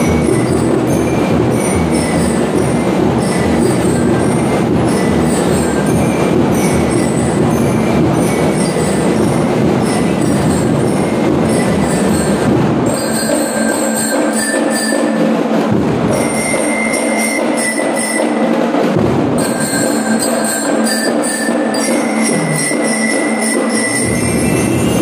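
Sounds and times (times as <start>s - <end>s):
bell lyres ringing: 0.0s - 15.4s, 16.2s - 18.6s, 19.4s - 25.0s
snare and bass drums: 0.0s - 25.0s.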